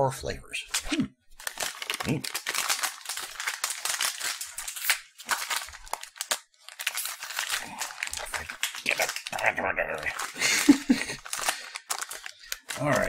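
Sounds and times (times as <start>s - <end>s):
snack pouch crinkling: 0.7s - 13.0s.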